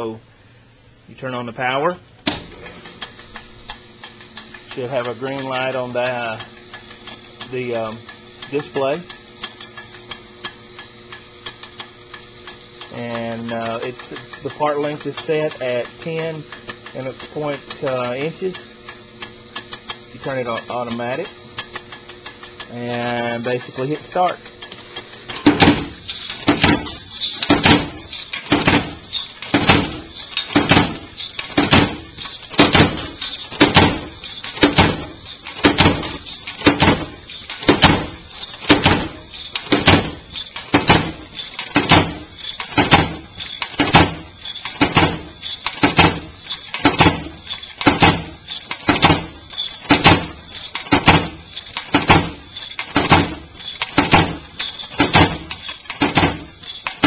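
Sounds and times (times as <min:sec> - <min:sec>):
machine cutter striking: 0:02.2 - 0:57.0.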